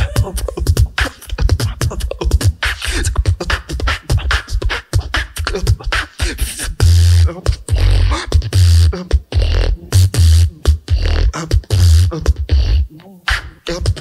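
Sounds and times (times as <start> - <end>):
beatboxed deep bass notes: 0.0 - 14.0
beatboxing drum sounds: 0.0 - 14.0.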